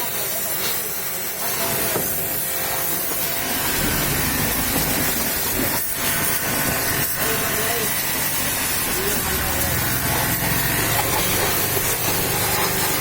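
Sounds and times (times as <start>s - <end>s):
pressure washer jet hissing: 0.1s - 13.0s.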